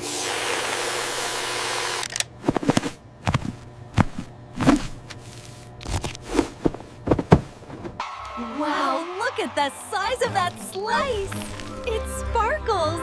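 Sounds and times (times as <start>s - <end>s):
faint steady hum: 1.2s - 12.4s.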